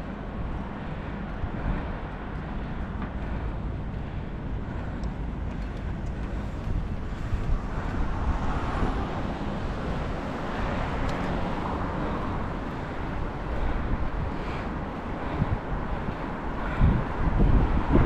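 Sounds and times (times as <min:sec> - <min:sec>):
tyres on a wet street: 0:00.0 - 0:18.0
wind noise on microphone: 0:00.0 - 0:18.0.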